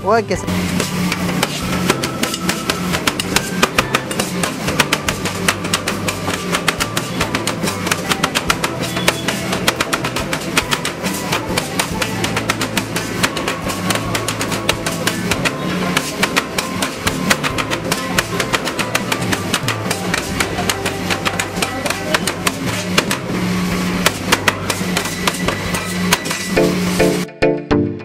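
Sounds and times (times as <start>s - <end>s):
background music with steady beat: 0.0s - 28.0s.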